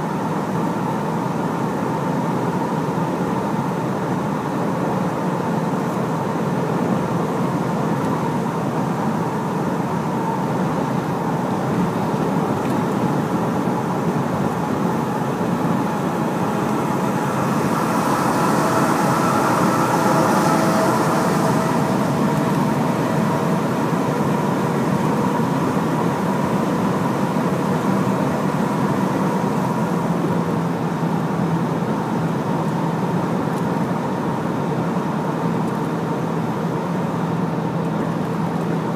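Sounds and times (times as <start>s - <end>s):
road and tyre noise: 0.0s - 38.9s
truck diesel engine running: 0.0s - 38.9s.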